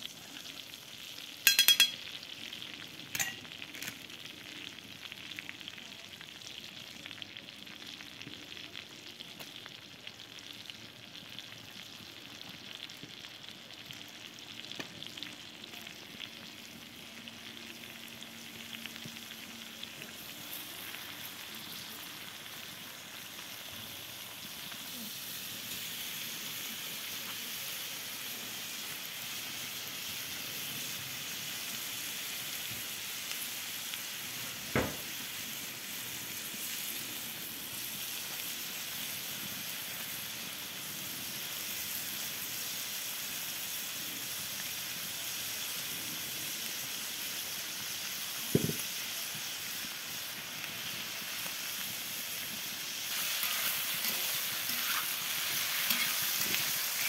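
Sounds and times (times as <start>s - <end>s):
meat sizzling on griddle: 0.0s - 57.0s.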